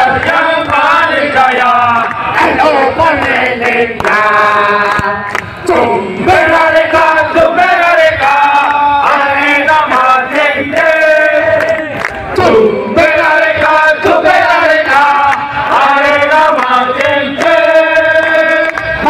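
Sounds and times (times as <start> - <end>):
crowd of men chanting: 0.0 - 19.0.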